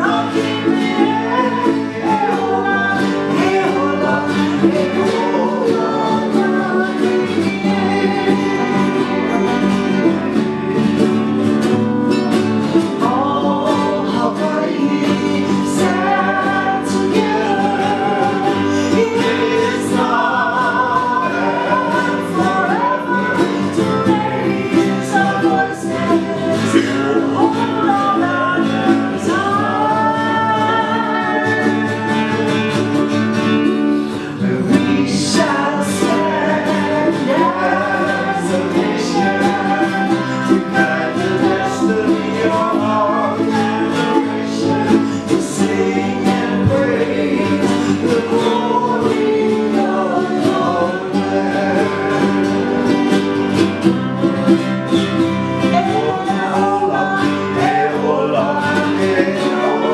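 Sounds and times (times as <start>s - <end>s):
acoustic guitar: 0.0s - 59.9s
person singing: 0.0s - 59.9s
strummed ukulele: 0.0s - 59.9s.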